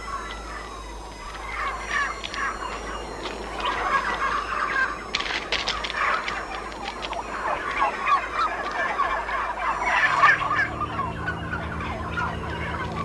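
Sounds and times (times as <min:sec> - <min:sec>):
turkeys yelping and squawking: 0:00.0 - 0:13.0.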